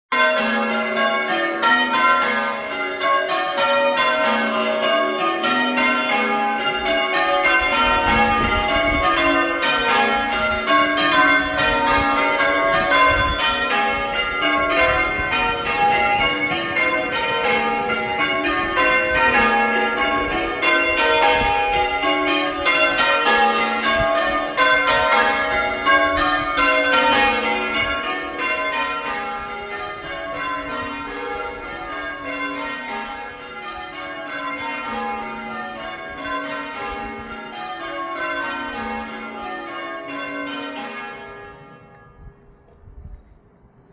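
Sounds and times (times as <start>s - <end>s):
church bells ringing changes: 0.1s - 43.0s.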